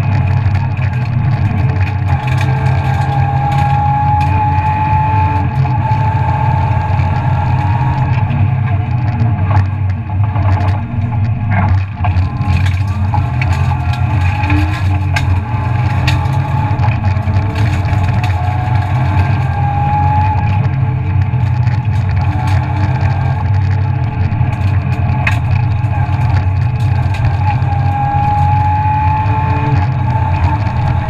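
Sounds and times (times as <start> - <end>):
car engine running under load: 0.0 - 31.0
car knocks and rattles: 0.0 - 31.0.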